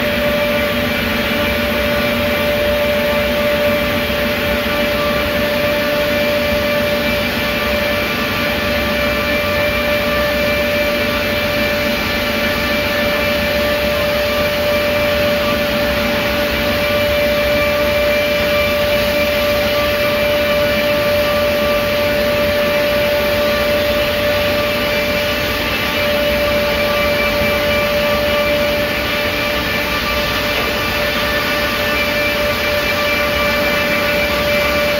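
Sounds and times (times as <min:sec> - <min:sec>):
saw machine running with whine: 0:00.0 - 0:34.9.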